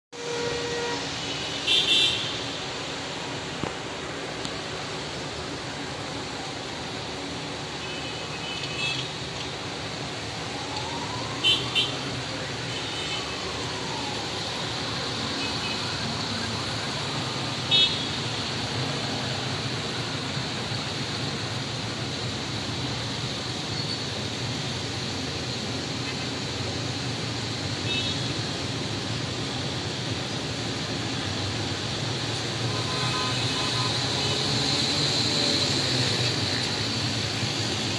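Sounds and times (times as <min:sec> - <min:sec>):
street traffic noise: 0:00.1 - 0:37.9.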